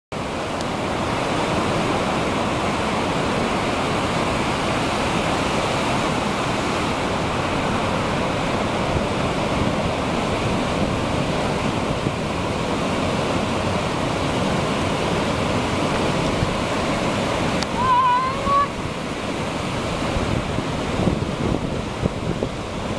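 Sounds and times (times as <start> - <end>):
ocean surf breaking: 0.2 - 22.9.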